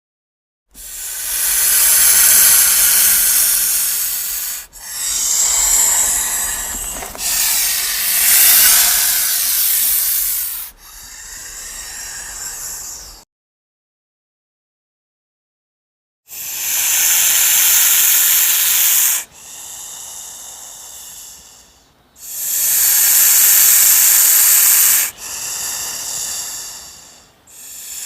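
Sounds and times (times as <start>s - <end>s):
snake hissing: 0.8s - 13.2s, 16.3s - 28.0s.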